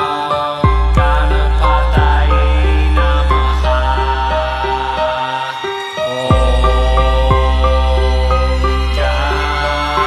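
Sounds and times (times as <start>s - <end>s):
chanting: 0.0s - 10.0s
meditation music melody: 0.0s - 10.0s
deep bass drone: 0.6s - 5.1s, 6.3s - 10.0s.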